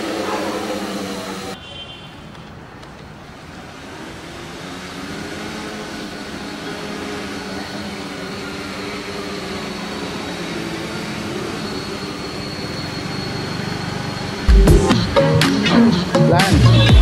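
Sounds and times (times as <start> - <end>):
quadcopter motors humming: 0.0 - 1.6, 3.2 - 17.0.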